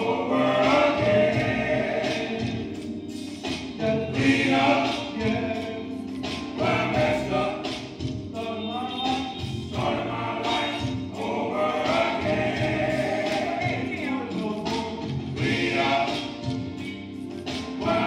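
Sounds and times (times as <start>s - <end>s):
male gospel chorus singing: 0.0s - 16.8s, 17.4s - 18.0s.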